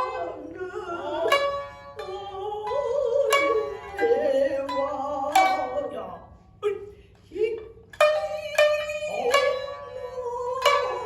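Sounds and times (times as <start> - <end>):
shamisen plucks: 0.0 - 6.3, 7.5 - 11.0.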